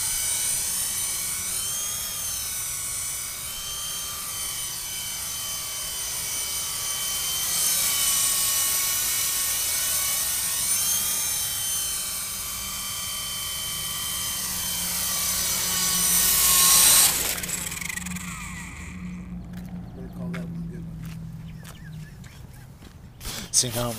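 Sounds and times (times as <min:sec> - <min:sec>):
toy helicopter rotor whine: 0:00.0 - 0:23.9.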